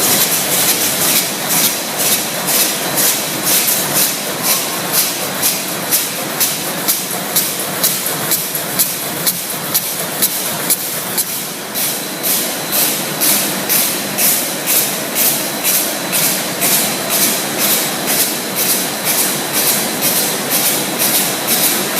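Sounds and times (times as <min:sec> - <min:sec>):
slitting machine rhythmic swishing: 0:00.0 - 0:21.9.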